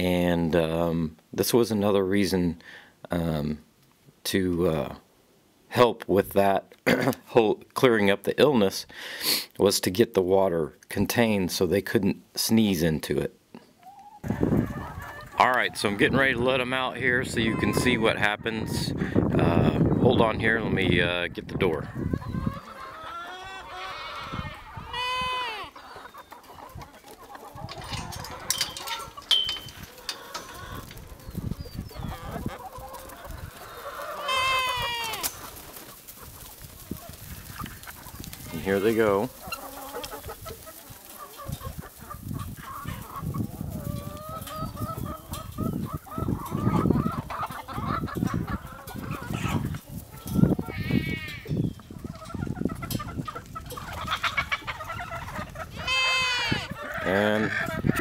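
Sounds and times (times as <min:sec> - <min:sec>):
chickens clucking: 0:09.3 - 0:58.0.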